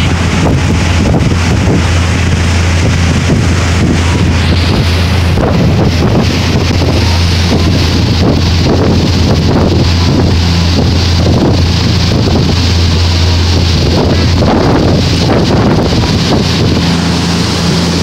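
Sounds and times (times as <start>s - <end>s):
boat engines droning: 0.0s - 18.0s
churning boat wake: 0.0s - 18.0s
wind buffeting microphone: 0.0s - 18.0s.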